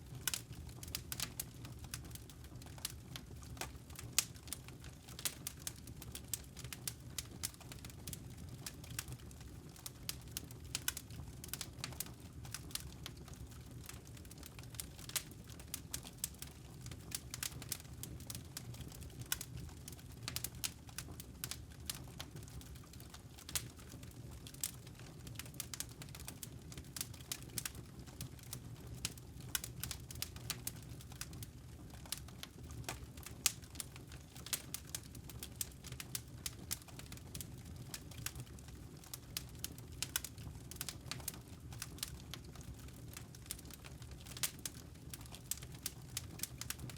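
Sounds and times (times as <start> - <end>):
campfire crackling and popping: 0.0 - 46.9
low rumble of burning logs: 0.0 - 46.9.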